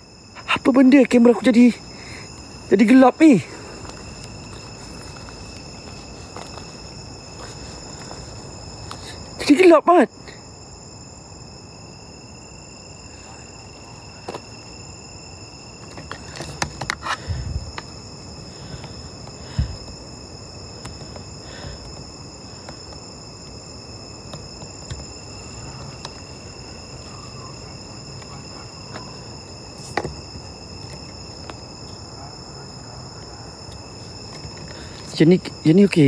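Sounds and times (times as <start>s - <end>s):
night insects chirring: 0.0s - 36.0s.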